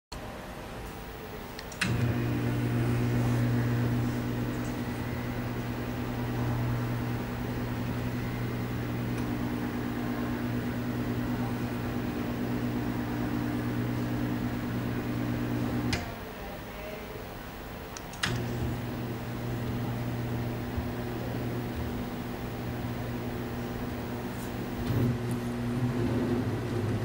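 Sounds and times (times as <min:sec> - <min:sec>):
electric motor humming: 0:01.6 - 0:16.1, 0:18.2 - 0:27.0.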